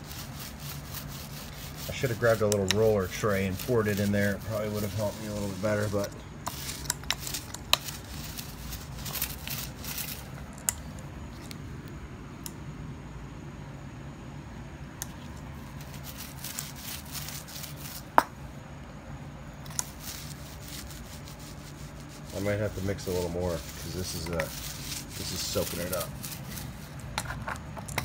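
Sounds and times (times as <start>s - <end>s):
paint roller sticky crackles: 0.0s - 12.0s, 15.0s - 18.2s, 19.6s - 28.0s
steady low hum: 0.0s - 28.0s.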